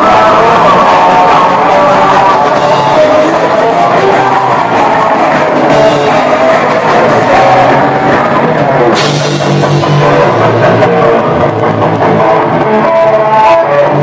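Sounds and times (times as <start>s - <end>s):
held guitar notes: 0.0s - 14.0s
metal band playing live: 0.0s - 14.0s.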